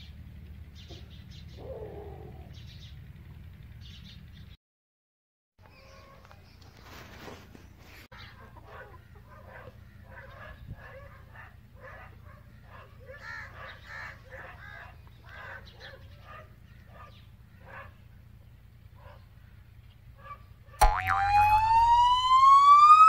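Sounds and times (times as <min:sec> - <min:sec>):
birds calling: 0:00.0 - 0:04.6, 0:05.6 - 0:23.0.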